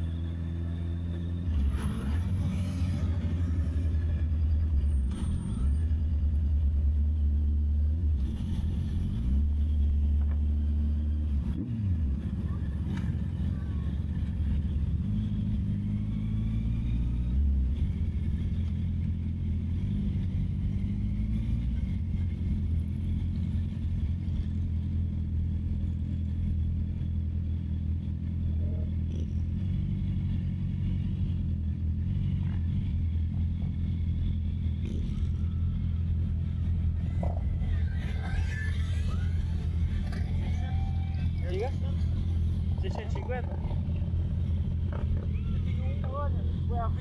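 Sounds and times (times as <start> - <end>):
motorcycle engine at low revs: 0.0 - 47.0.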